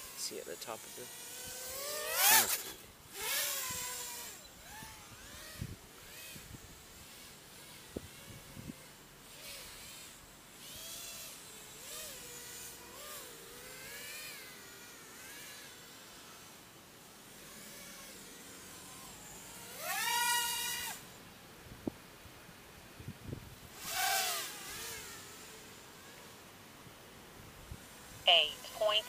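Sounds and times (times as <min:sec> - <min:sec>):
quadcopter motors whining: 0:00.0 - 0:21.2, 0:23.2 - 0:26.4, 0:27.7 - 0:29.0.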